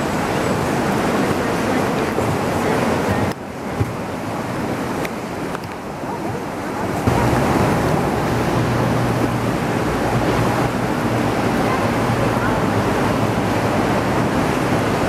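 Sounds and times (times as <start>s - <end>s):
boat engine hum: 0.0s - 15.0s
wind buffeting microphone: 0.0s - 15.0s.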